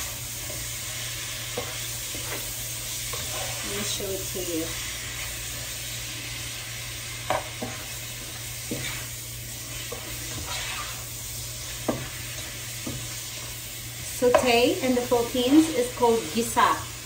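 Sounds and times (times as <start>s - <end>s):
pork sizzling in a pot: 0.0s - 17.0s.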